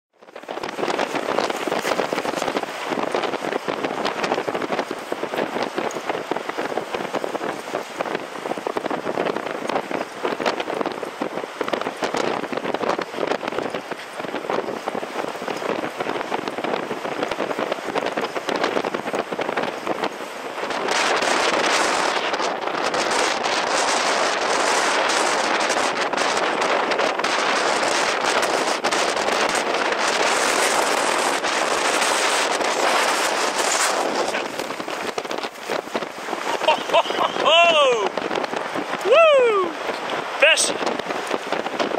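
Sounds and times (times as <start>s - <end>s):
storm wind buffeting microphone: 0.2s - 41.9s.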